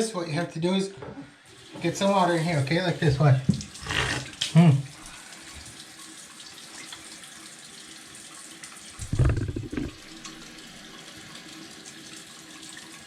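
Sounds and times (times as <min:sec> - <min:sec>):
tap water running into bathtub: 0:01.0 - 0:13.0.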